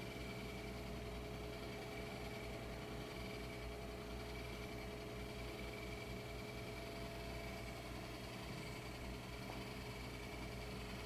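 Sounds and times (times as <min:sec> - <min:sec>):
faint hum: 0:00.0 - 0:11.0
thin steady whine tones: 0:00.0 - 0:11.0.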